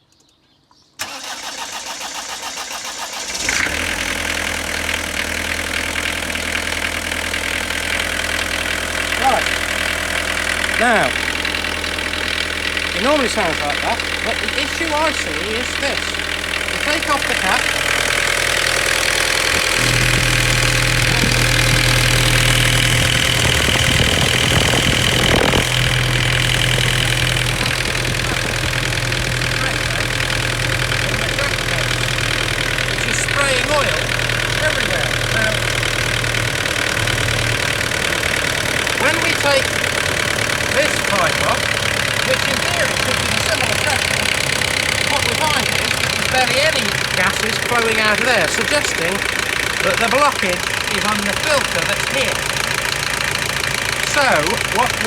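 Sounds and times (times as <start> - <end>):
diesel engine idling: 1.0 - 55.0
starter motor cranking: 1.0 - 55.0.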